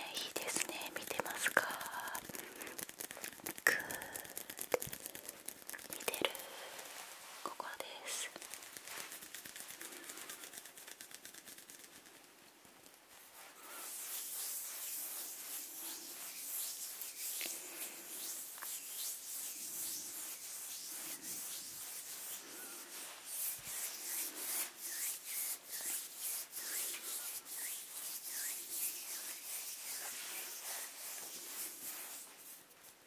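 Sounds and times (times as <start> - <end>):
palms rubbing together: 0.0 - 12.4, 13.1 - 33.0.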